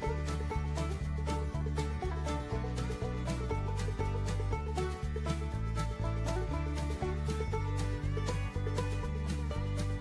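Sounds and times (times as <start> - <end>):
upbeat country-flavoured music: 0.0 - 10.0.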